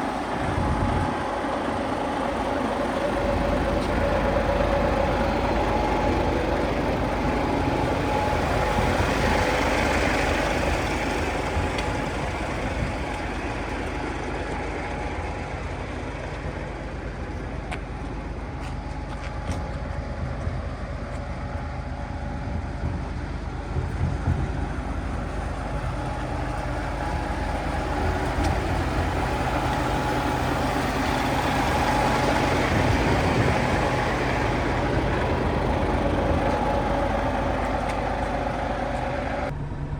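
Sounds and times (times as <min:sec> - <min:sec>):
diesel truck engine idling: 0:00.0 - 0:39.9
faint steady whine: 0:00.0 - 0:39.9.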